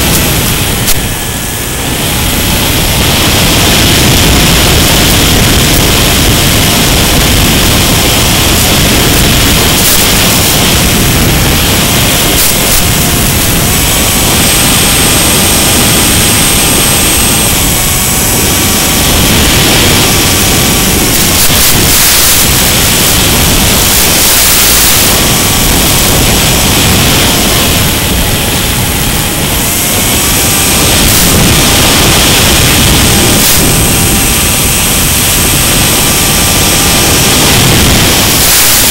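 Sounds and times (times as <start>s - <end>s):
electric motor whine: 0.0s - 38.9s
loud steady rushing hiss: 0.0s - 38.9s
static crackles: 0.0s - 38.9s.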